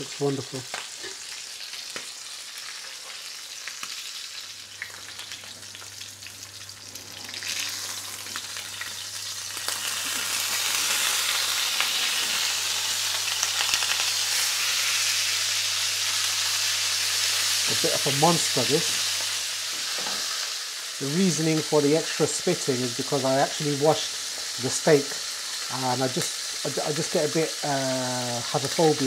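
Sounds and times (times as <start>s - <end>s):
steak sizzling in a pan: 0.0s - 29.0s.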